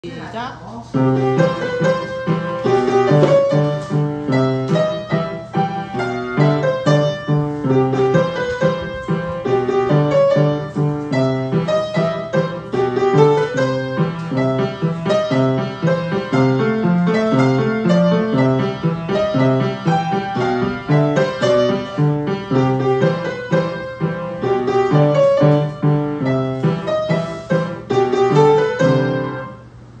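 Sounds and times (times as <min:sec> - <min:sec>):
solo grand piano piece: 0:00.8 - 0:30.0.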